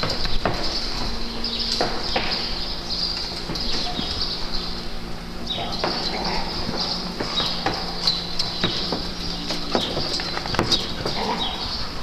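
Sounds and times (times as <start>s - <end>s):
high chirping: 0.0s - 12.0s
steady low hum: 0.0s - 12.0s.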